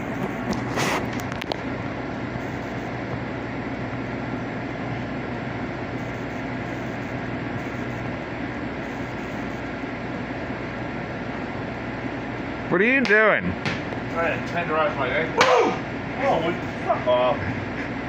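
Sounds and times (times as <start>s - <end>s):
mechanical drone with low hum: 0.0s - 18.0s.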